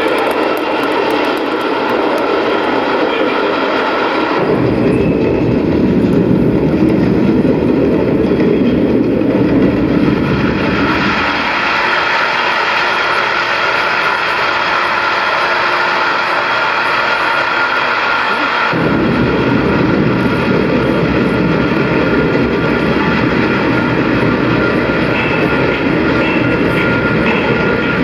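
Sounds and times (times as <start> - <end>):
train rumbling over loudspeakers: 0.0 - 28.0.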